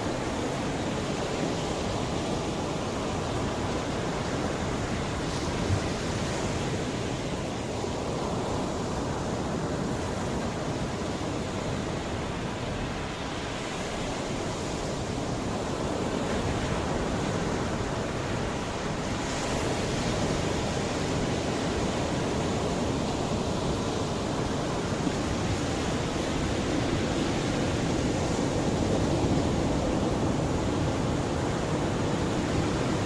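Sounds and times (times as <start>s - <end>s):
sea waves breaking on shore: 0.0s - 33.0s.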